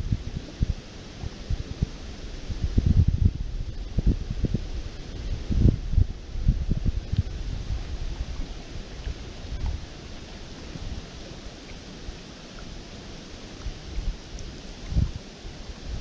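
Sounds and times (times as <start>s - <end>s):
river water rushing: 0.0s - 2.9s, 3.5s - 16.0s
wind buffeting microphone: 0.0s - 12.3s, 13.5s - 16.0s.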